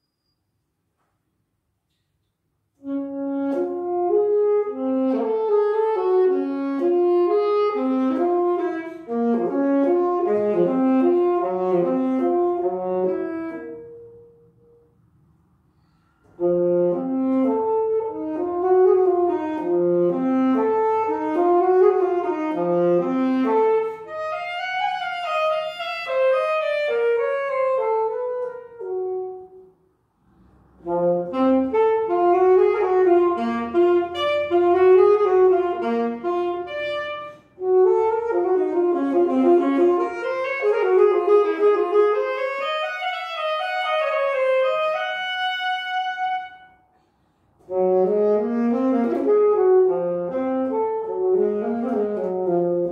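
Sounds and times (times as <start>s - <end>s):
saxophone melody: 2.8s - 15.1s, 16.3s - 29.8s, 30.8s - 47.0s, 47.6s - 52.9s.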